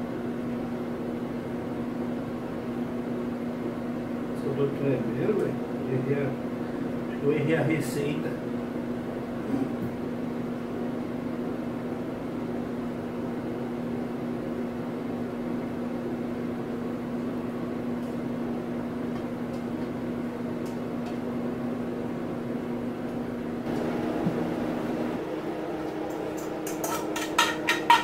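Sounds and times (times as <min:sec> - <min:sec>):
appliance fan humming: 0:00.0 - 0:28.0.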